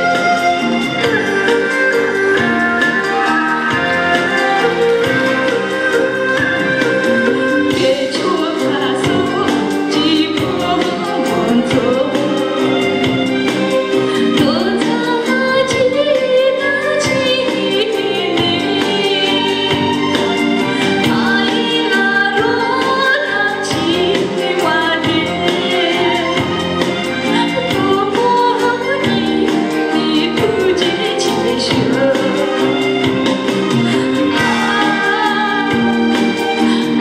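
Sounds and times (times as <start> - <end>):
amplified instrumental accompaniment: 0.0 - 37.0
woman singing into microphone: 0.0 - 37.0.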